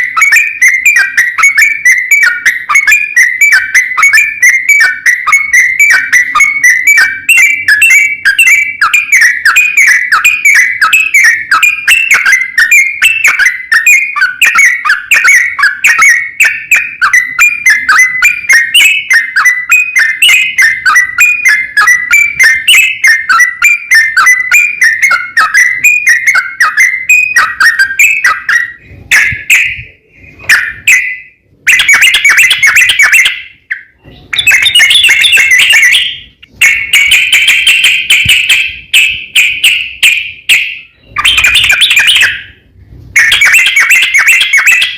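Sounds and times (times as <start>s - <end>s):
bird singing bubbling whistles: 0.0s - 42.5s, 43.2s - 44.9s.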